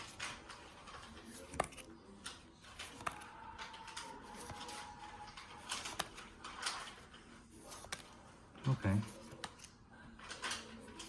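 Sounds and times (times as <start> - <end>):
trading cards rustling and clicking: 0.0 - 11.0.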